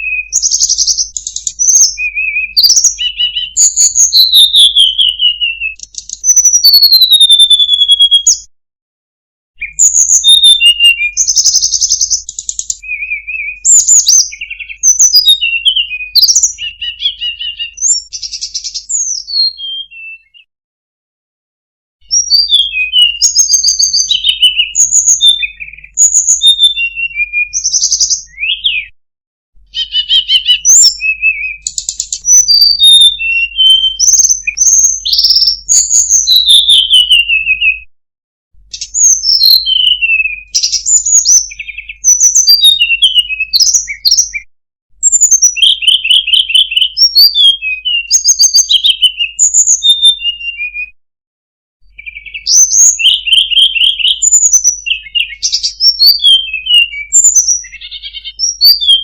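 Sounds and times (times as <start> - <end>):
songbird chirps and trills: 0.0 - 8.5, 9.6 - 20.5, 22.1 - 28.9, 29.7 - 37.8, 38.7 - 44.4, 45.0 - 50.8, 51.8 - 59.0.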